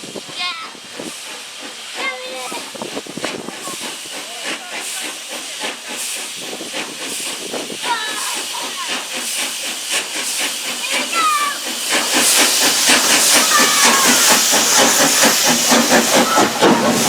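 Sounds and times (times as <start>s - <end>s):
steam hissing: 0.0s - 17.0s
steam locomotive exhaust beating: 0.0s - 17.0s.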